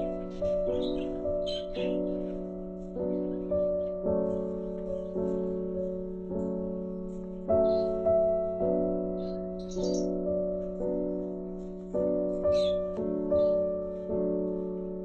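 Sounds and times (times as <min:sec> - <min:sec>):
gentle piano notes and chords: 0:00.0 - 0:15.0.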